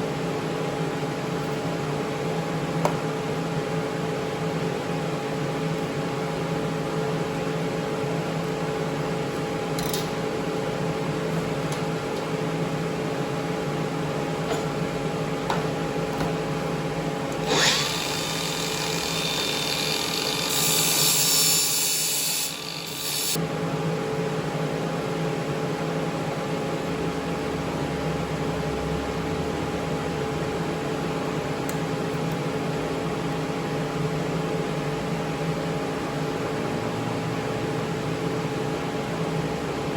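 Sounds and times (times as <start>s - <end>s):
machine hum with fixed tones: 0.0s - 39.9s.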